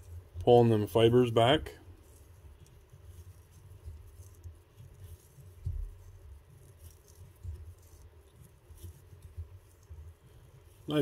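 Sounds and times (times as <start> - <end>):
light handling ticks: 0.0 - 11.0
low dull bumps: 1.5 - 11.0.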